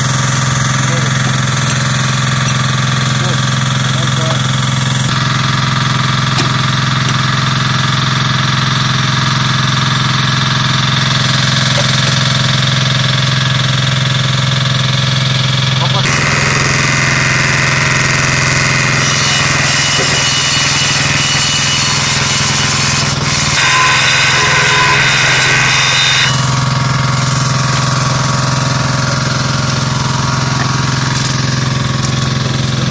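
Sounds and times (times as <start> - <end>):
engine droning steadily: 0.0 - 21.2, 26.2 - 32.9.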